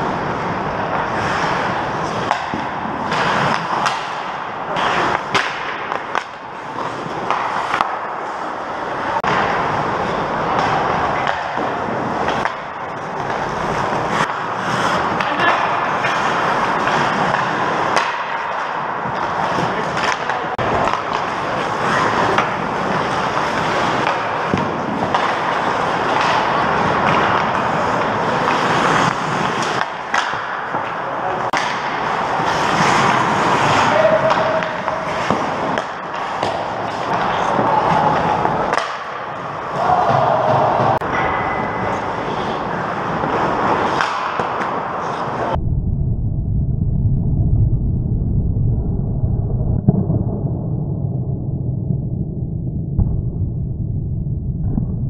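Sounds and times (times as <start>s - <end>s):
skates scraping on ice: 0.0s - 45.6s
sticks and pucks clacking: 0.0s - 45.6s.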